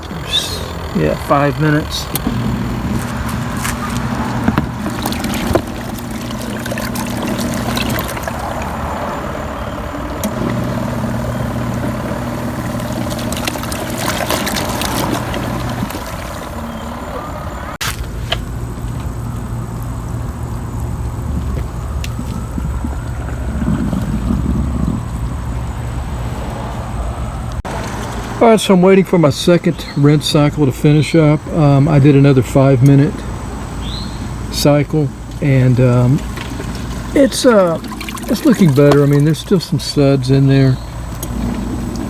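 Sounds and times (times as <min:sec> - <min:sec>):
washing machine motor humming: 0:00.0 - 0:17.8, 0:18.4 - 0:26.7, 0:27.6 - 0:42.0
water sloshing in tub: 0:00.0 - 0:26.8, 0:31.1 - 0:42.0.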